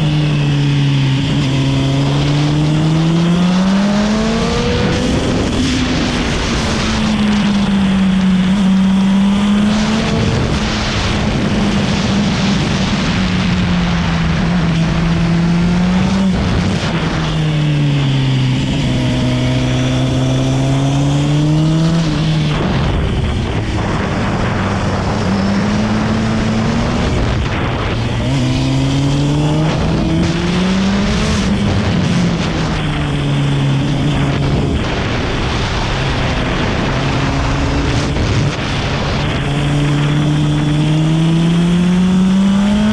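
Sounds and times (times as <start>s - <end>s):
motorcycle engine accelerating: 0.0s - 42.9s
steady rushing noise: 0.0s - 42.9s.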